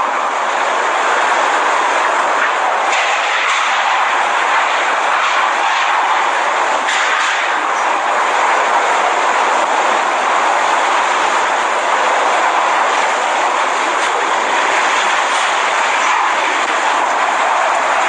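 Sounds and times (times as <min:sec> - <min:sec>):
driving rain: 0:00.0 - 0:18.0
strong wind: 0:00.0 - 0:18.0.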